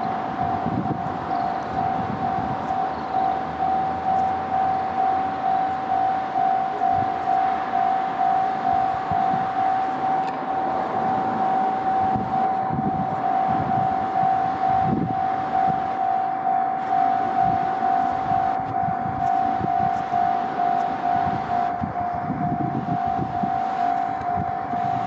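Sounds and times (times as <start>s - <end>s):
electric train rumble: 0.0s - 25.0s.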